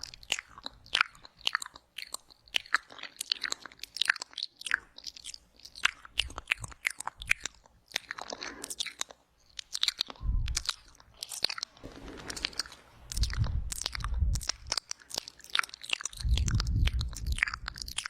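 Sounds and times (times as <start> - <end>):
wet mouth clicks and smacks: 0.0 - 11.8, 12.4 - 18.0.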